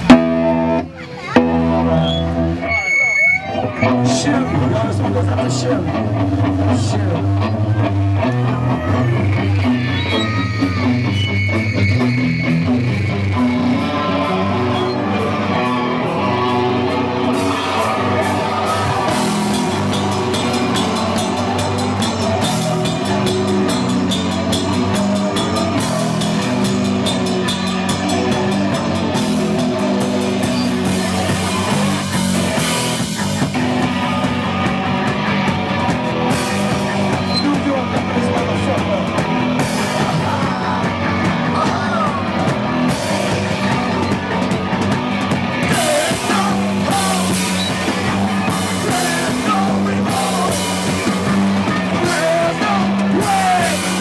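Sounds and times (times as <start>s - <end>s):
bass guitar: 0.0s - 54.0s
electric guitar: 0.0s - 54.0s
drum kit and cymbals: 9.1s - 54.0s.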